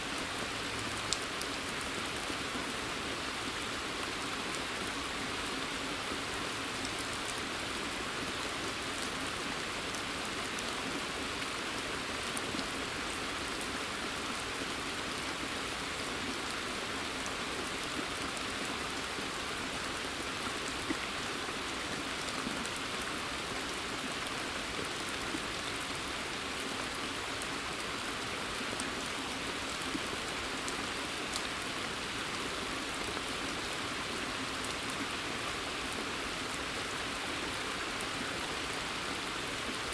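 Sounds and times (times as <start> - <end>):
rain falling on pond: 0.0 - 39.9.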